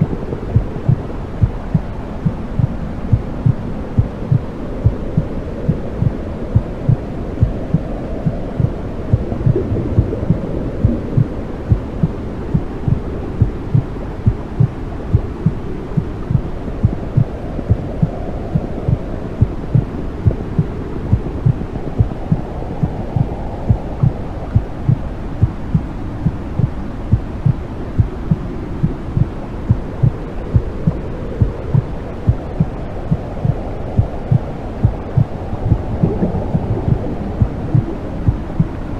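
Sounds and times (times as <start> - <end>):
low whooshing rush: 0.0 - 38.9
heartbeat thumping: 0.5 - 12.7, 13.4 - 38.8.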